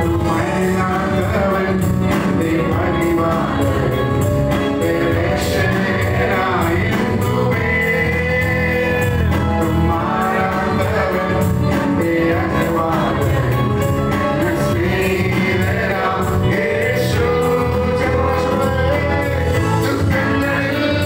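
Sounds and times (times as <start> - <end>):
keyboard backing with beat: 0.0 - 21.0
man singing into a microphone: 0.0 - 21.0.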